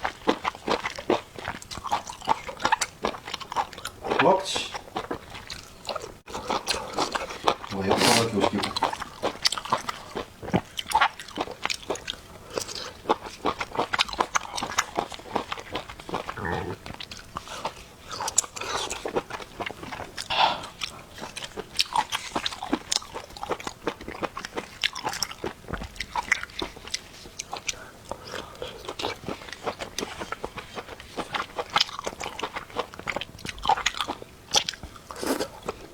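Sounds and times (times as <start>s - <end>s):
person chewing crunchy food: 0.0s - 35.9s.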